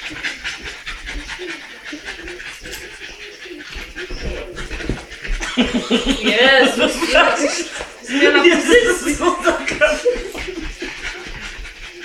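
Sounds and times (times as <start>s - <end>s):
dogs panting and snuffling: 0.0s - 12.0s.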